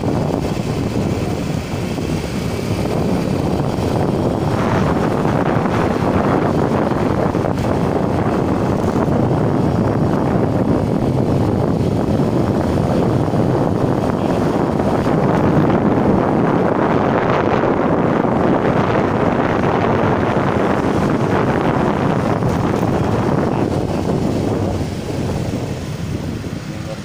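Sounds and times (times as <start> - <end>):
wind buffeting a microphone: 0.0 - 27.0.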